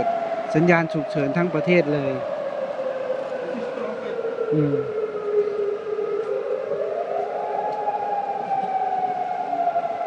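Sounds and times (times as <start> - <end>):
warning siren wailing: 0.0 - 10.0.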